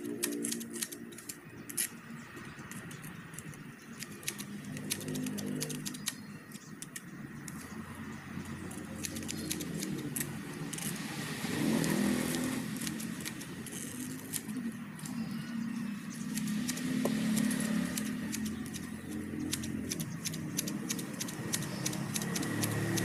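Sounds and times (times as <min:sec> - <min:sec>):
grass shears snipping: 0:00.0 - 0:15.4, 0:16.0 - 0:23.0
vehicle engine passing: 0:00.0 - 0:23.0.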